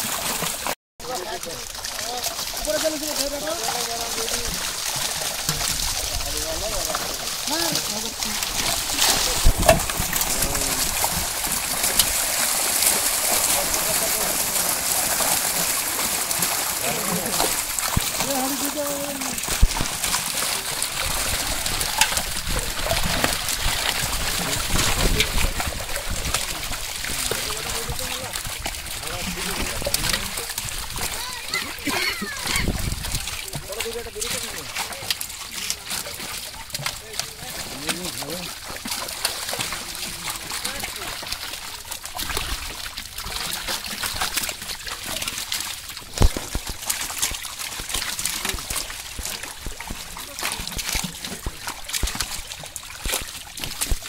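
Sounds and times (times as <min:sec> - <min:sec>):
fish splashing in water: 0:00.0 - 0:54.0.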